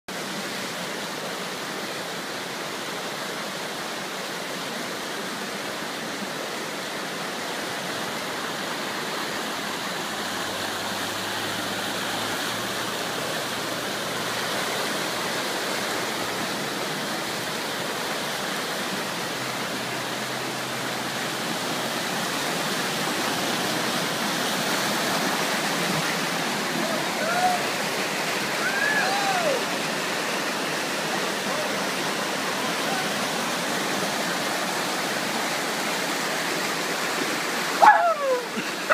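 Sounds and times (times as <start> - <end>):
water rushing down rock: 0.1 - 38.9.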